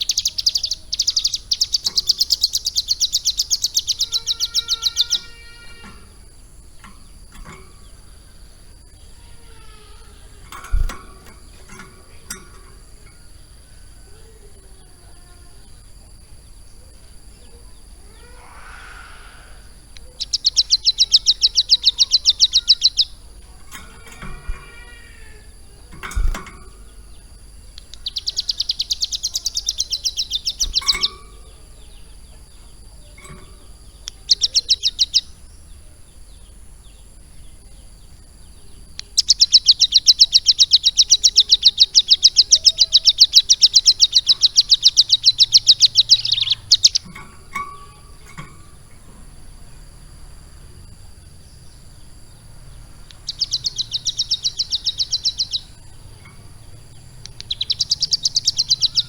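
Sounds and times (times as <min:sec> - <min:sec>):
bird singing high rattling trills: 0:00.0 - 0:59.0
faint bird chirps: 0:00.0 - 0:59.0.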